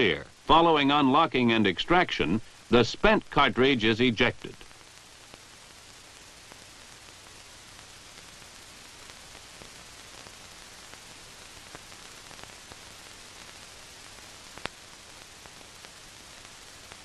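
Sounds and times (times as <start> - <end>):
faint crackles: 0.0 - 17.0
film soundtrack hiss and hum: 0.0 - 17.0.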